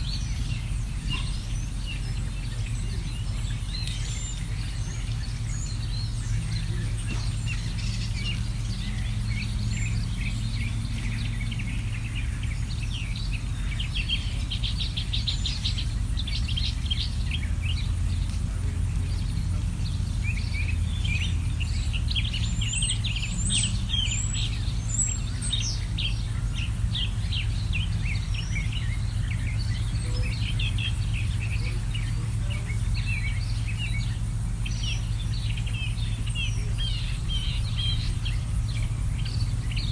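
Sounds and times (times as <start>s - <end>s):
songbirds chirping: 0.0s - 39.9s
steady low hum: 0.0s - 39.9s.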